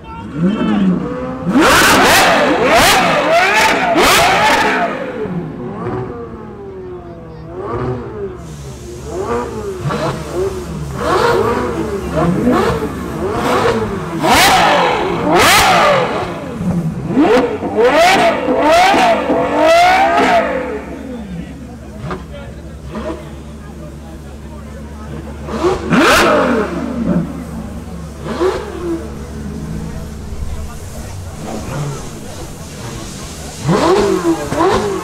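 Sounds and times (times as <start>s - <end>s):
car engine revving in blips: 0.2s - 35.0s.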